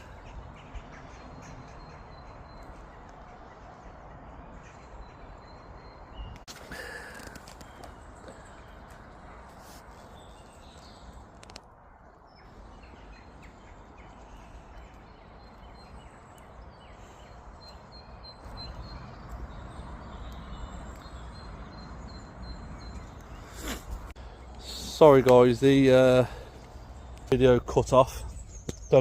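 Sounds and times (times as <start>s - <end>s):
faint bird calls: 0.0s - 25.1s.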